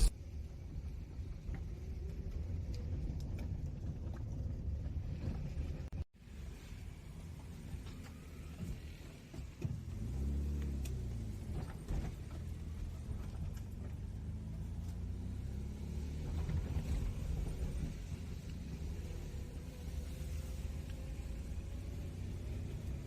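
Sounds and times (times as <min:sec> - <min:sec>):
road rumble: 0:00.0 - 0:23.0.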